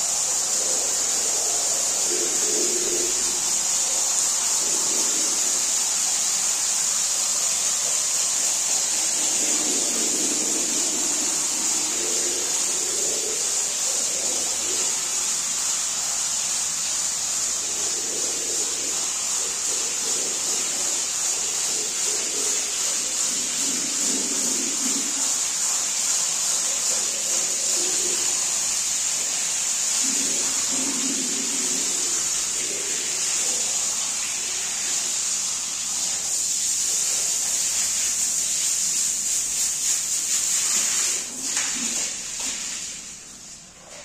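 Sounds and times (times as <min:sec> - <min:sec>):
water spraying onto rug: 0:00.0 - 0:44.0.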